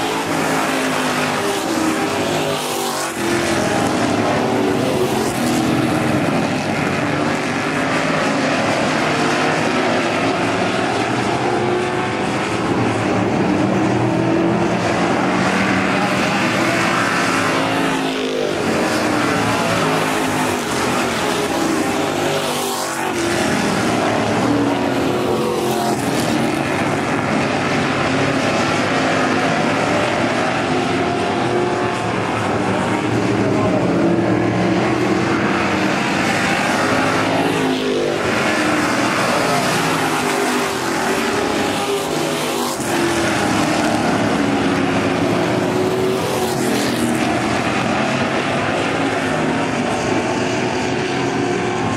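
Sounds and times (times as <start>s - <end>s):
race car engines: 0.0s - 51.9s.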